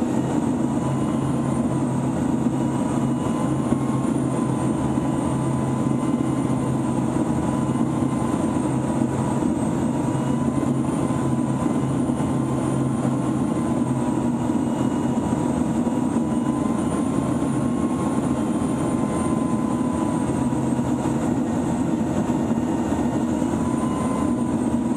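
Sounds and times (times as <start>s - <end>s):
turboprop engine drone: 0.0s - 24.9s.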